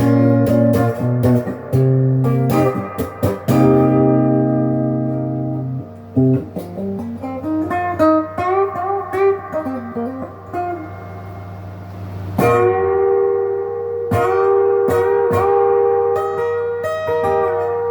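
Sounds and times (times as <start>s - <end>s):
guitar lick with string bends: 0.0s - 17.9s
overdriven electric guitar chords: 0.0s - 17.9s.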